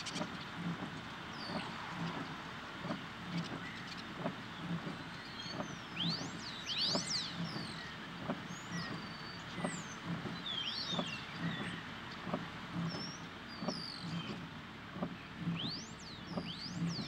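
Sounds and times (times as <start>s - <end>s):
birds chirping: 0.0s - 17.0s
low dull thuds: 0.1s - 17.0s.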